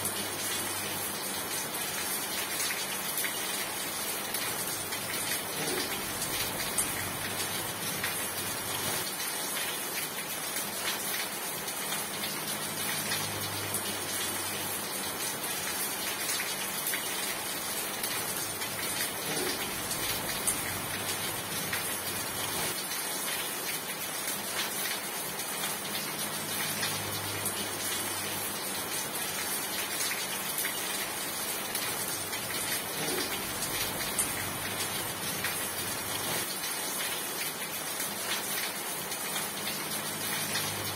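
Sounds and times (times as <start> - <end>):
raindrops ticking on a surface: 0.0 - 40.9
steady rain hiss: 0.0 - 40.9.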